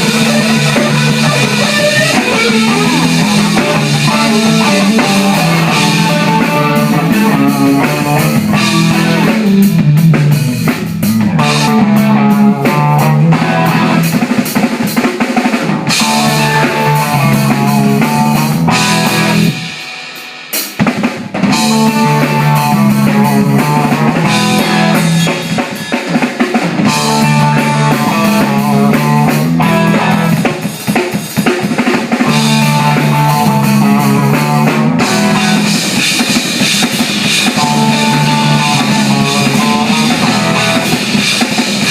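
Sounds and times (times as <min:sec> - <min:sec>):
drum kit and cymbals: 0:00.0 - 0:41.9
live rock band playing: 0:00.0 - 0:41.9.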